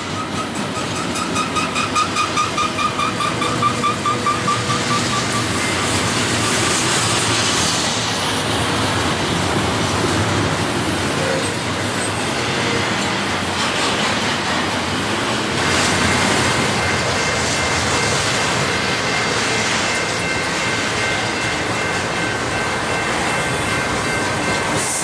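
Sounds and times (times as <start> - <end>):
freight train wheels on rails: 0.0 - 25.0.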